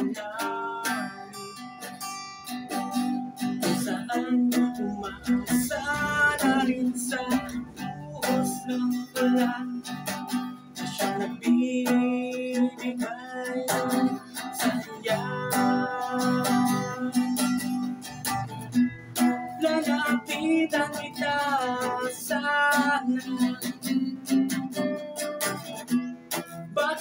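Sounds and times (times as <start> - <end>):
man singing: 0.0 - 1.7, 3.4 - 18.4, 19.4 - 24.8, 26.5 - 27.0
acoustic guitar chords: 0.0 - 27.0.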